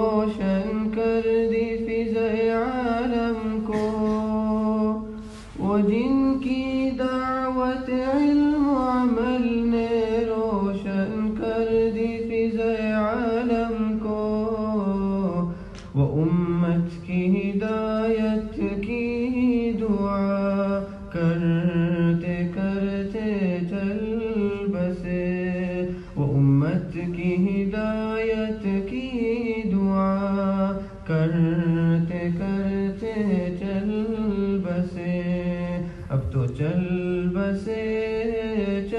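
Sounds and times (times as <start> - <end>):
person singing devotional song: 0.0 - 38.9.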